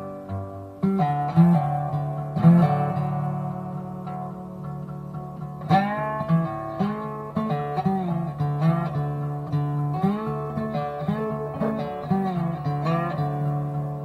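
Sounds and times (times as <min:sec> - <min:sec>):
guitar plucked bending notes: 0:00.0 - 0:14.0.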